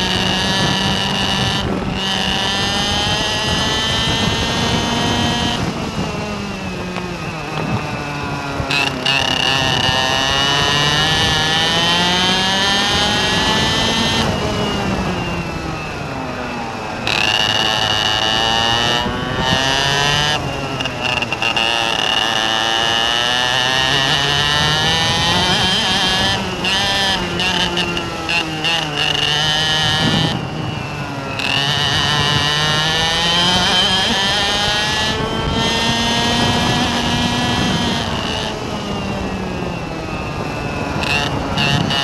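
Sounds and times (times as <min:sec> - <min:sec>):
engine revving up and down: 0:00.0 - 0:42.0.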